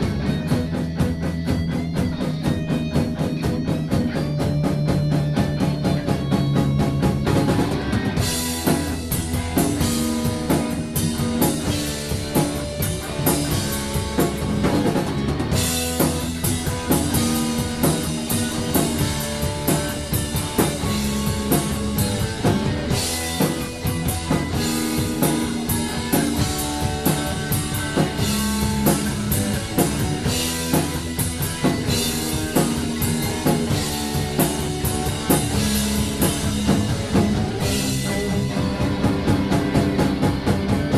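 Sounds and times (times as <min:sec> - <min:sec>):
instrumental rock music: 0:00.0 - 0:40.9.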